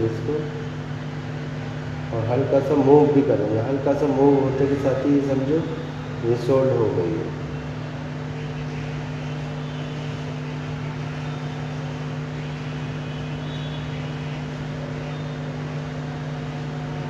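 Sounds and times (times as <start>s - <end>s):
hot air station blowing: 0.0s - 17.0s.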